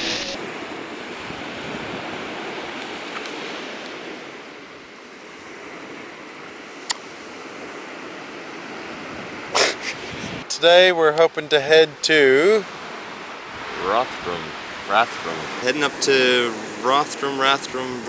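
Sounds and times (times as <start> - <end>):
surf washing on beach: 0.0 - 18.0.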